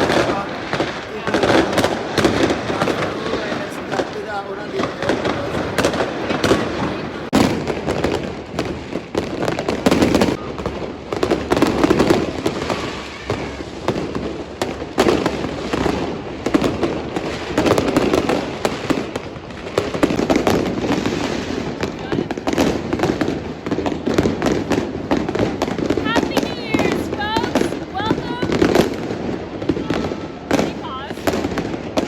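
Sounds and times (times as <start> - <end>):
distant fireworks blasts: 0.0 - 32.0
fireworks bangs and crackles: 0.0 - 32.0.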